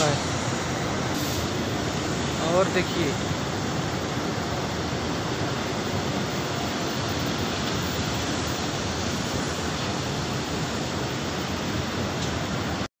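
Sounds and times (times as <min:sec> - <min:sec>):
steady rushing noise: 0:00.0 - 0:12.9.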